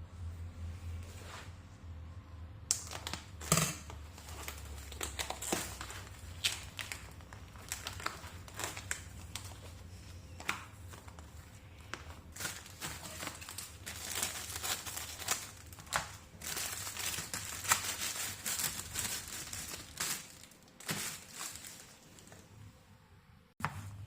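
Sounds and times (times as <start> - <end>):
low steady hum: 0.0 - 24.0
objects crinkling and clicking: 2.7 - 22.5.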